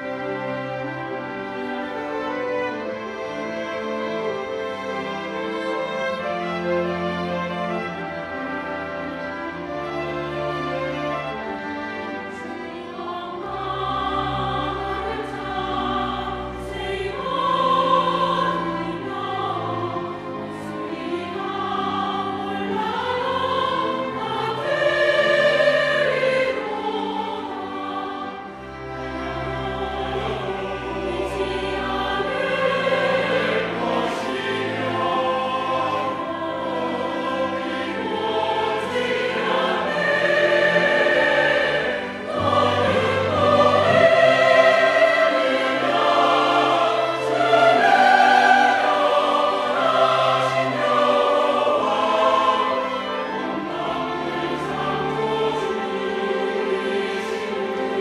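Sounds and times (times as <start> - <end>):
large choir singing: 0.0 - 58.0.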